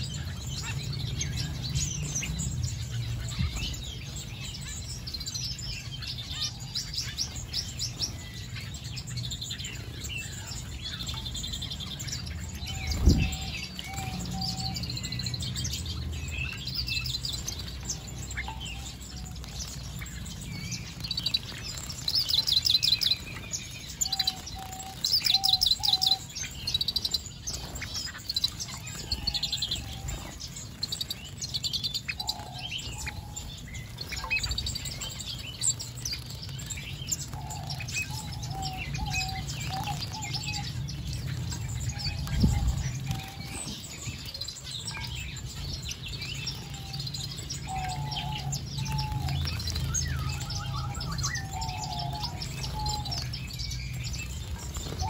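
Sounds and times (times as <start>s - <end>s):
finches chirping and twittering: 0.0s - 55.0s.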